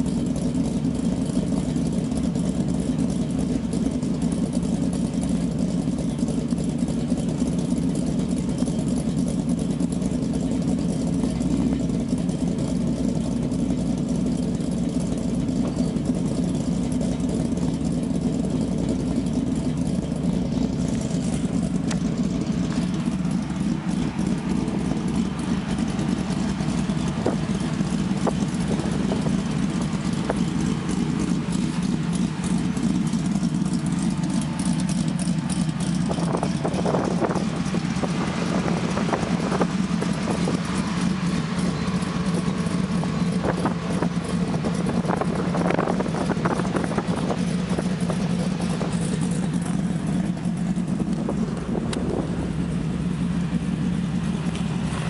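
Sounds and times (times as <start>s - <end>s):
pickup truck engine idling: 0.0s - 55.0s.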